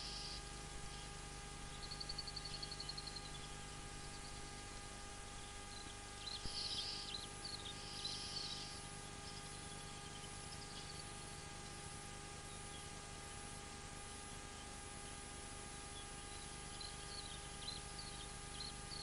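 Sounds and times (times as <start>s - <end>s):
birds chirping: 0.0s - 19.0s
faint hiss and hum: 0.0s - 19.0s.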